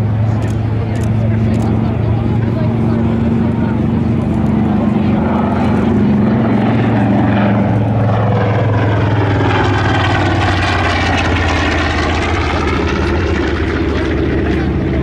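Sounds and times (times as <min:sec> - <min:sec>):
radial piston engine droning: 0:00.0 - 0:15.0.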